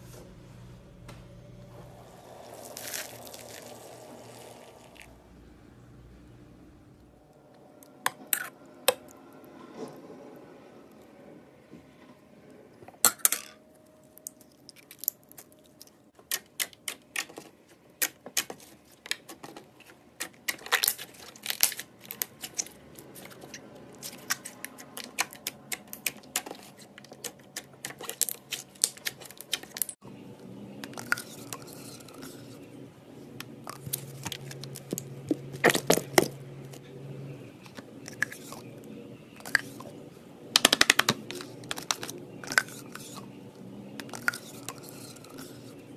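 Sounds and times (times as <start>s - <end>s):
faint background hum: 0.0s - 45.9s.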